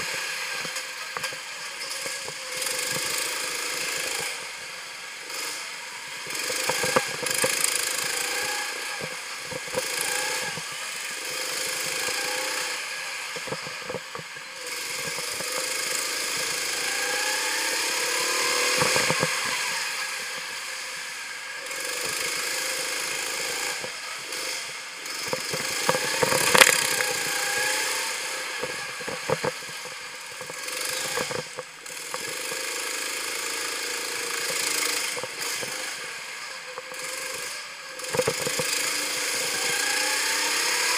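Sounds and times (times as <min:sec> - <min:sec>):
kart knocks and rattles: 0:00.0 - 0:05.6, 0:06.2 - 0:40.9
wind and road noise: 0:00.0 - 0:32.6, 0:34.0 - 0:39.9
go-kart engine running: 0:00.0 - 0:40.9.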